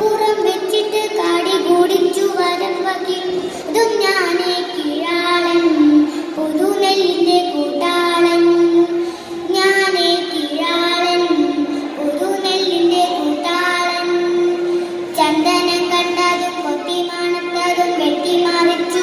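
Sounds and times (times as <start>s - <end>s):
girl singing into a microphone: 0.0s - 19.0s.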